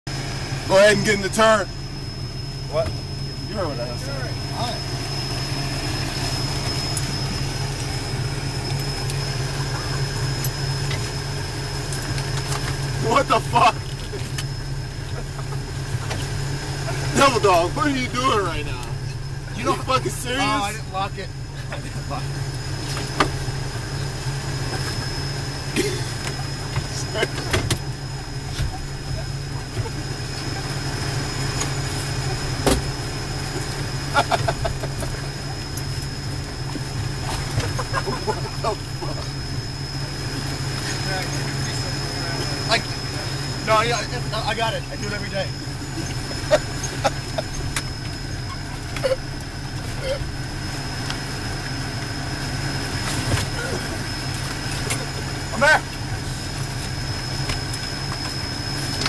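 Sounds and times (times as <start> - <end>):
thin high whine: 0.1 - 59.0
vehicle engine drone: 0.1 - 59.0.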